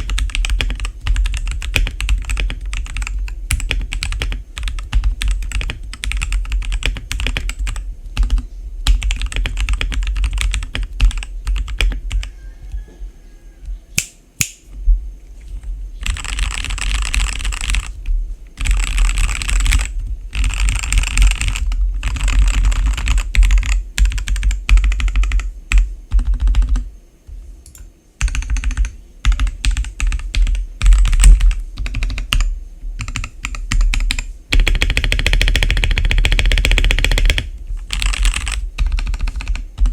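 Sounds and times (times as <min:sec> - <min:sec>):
mechanical keyboard typing: 0:00.0 - 0:12.2, 0:16.0 - 0:18.0, 0:18.6 - 0:26.9, 0:28.2 - 0:39.9.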